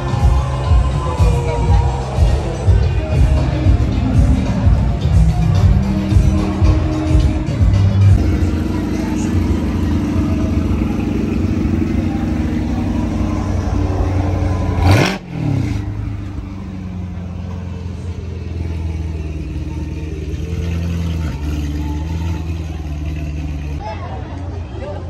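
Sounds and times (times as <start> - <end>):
car engine running: 1.0 - 23.8
engine rev: 3.6 - 23.8.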